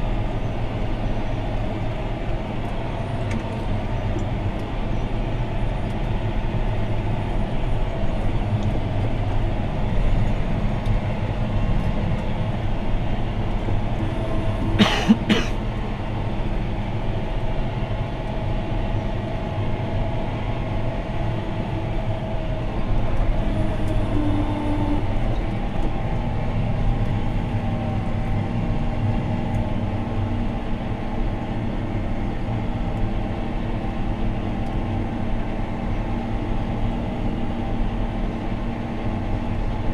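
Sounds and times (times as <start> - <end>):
diesel tractor engine under load: 0.0 - 39.9.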